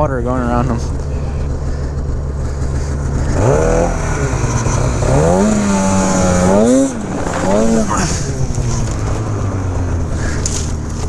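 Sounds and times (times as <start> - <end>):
snowmobile engines revving: 0.0 - 11.0.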